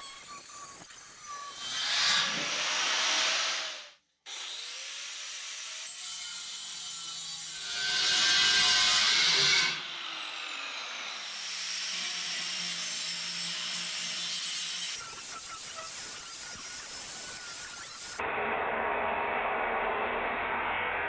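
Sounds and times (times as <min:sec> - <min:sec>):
power tool cutting steel: 0:00.0 - 0:18.2.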